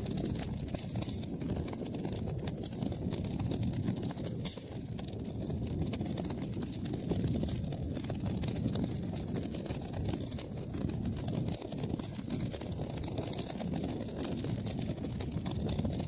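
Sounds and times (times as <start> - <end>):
burning wood crackling: 0.0 - 16.0
fire flames rumbling: 0.0 - 16.0.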